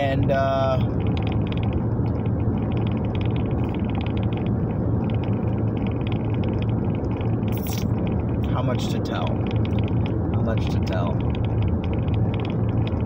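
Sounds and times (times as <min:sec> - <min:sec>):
vehicle rumbling in motion: 0:00.0 - 0:13.0.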